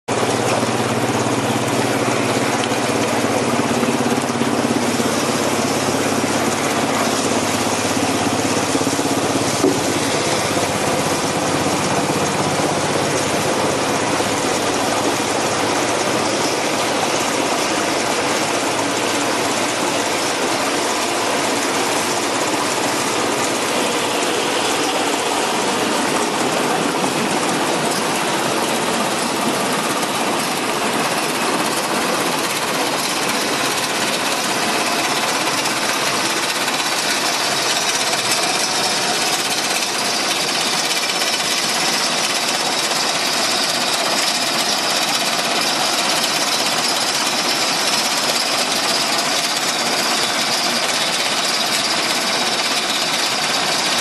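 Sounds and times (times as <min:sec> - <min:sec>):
motor humming: 0:00.1 - 0:54.0
water churning and bubbling: 0:00.1 - 0:54.0.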